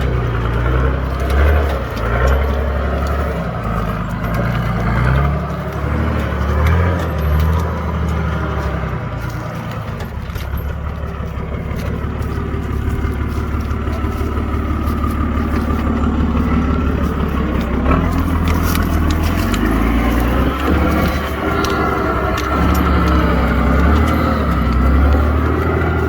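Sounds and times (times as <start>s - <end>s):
engine running at low revs: 0.0s - 26.0s
scattered clicks and knocks: 0.0s - 26.0s.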